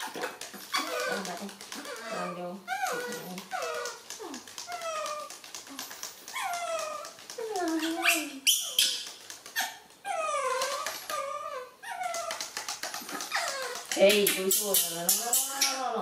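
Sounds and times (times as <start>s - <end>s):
baby monkeys whimpering: 0.0s - 16.0s.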